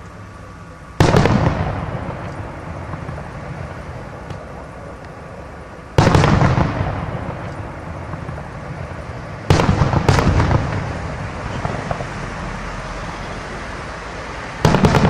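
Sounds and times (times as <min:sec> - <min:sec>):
fireworks bursting with echo: 0:01.0 - 0:13.0, 0:14.1 - 0:15.0.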